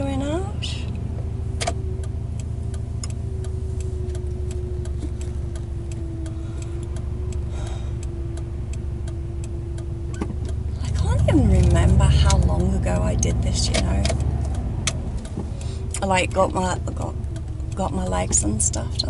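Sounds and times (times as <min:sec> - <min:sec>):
car engine idling: 0:00.0 - 0:19.0
car turn signal ticking: 0:00.0 - 0:19.0.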